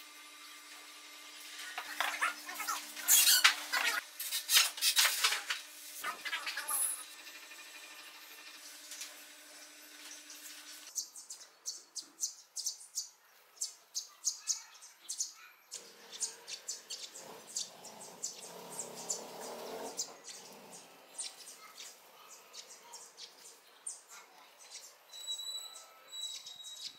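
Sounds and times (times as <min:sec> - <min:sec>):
sparrows chirping: 0:01.6 - 0:05.1, 0:08.0 - 0:26.9.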